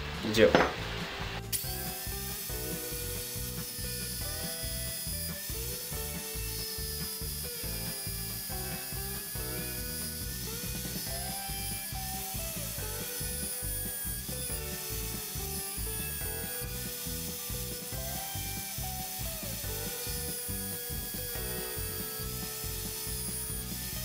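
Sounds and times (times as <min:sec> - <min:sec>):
belt sander grinding steel: 0:01.5 - 0:24.0.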